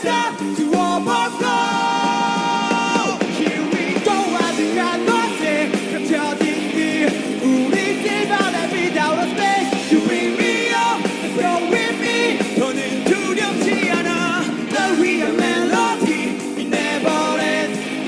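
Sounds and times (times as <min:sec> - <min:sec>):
people singing: 0:00.0 - 0:18.0
pop-rock band playing: 0:00.0 - 0:18.0.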